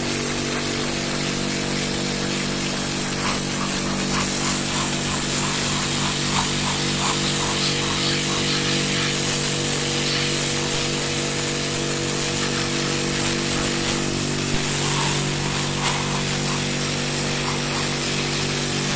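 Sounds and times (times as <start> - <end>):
pressure washer pump humming: 0.0 - 18.9
water jet hissing: 0.0 - 18.9.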